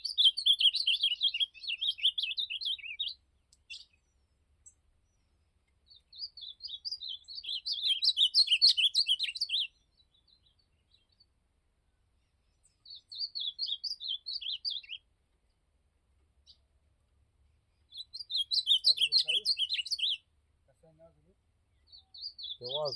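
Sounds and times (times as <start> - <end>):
bird singing warbling phrases: 0.0 - 11.3, 12.4 - 15.1, 17.8 - 22.9.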